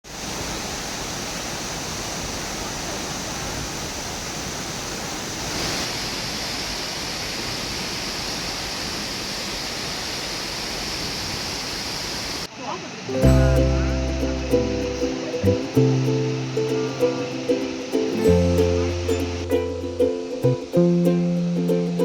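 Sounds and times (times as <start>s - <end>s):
waterfall rushing: 0.1s - 22.0s.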